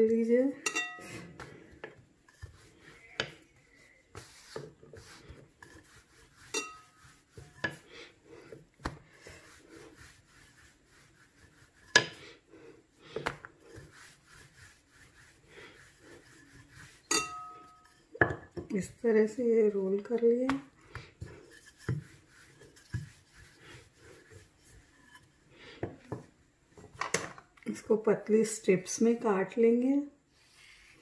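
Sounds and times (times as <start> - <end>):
rolling pin rubbing dough: 1.0 - 26.3.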